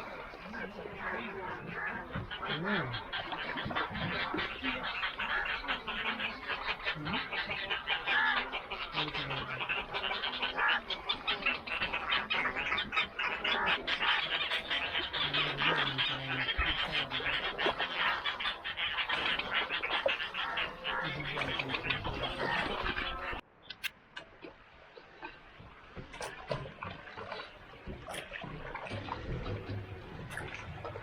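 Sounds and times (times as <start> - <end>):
waterbirds calling: 0.0 - 31.0.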